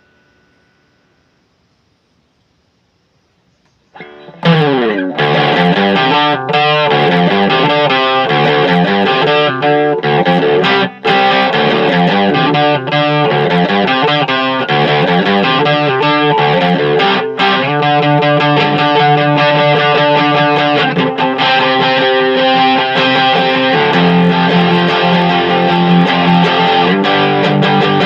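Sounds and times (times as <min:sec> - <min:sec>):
distorted electric guitar riff: 0:04.0 - 0:28.0.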